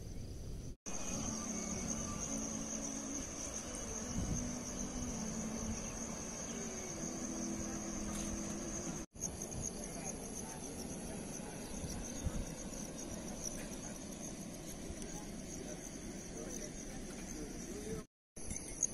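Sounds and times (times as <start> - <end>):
low steady hum: 0.0 - 18.0
insects chirring: 0.0 - 18.9.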